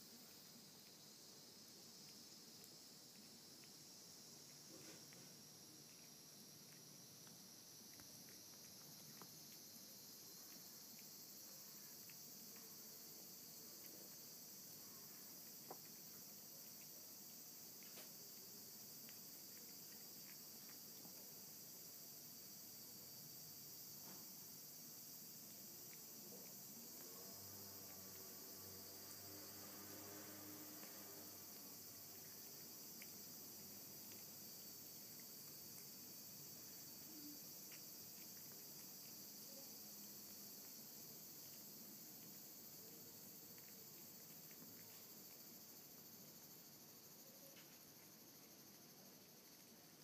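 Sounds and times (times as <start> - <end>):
cat chewing and licking: 0.0 - 50.0
steady high hiss: 0.0 - 50.0.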